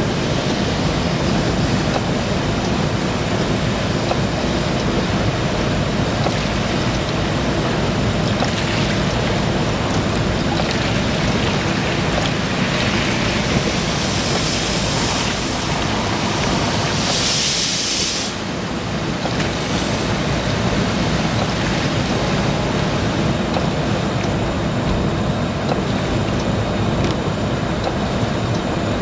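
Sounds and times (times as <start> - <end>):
water spray rushing: 0.1 - 26.4.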